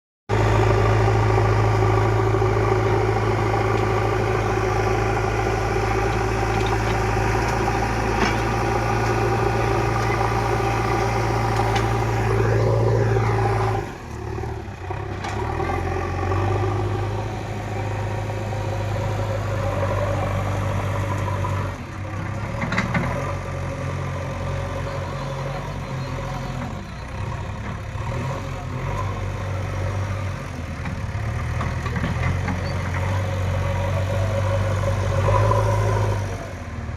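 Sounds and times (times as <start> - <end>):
digger diesel engine running: 0.3 - 36.9.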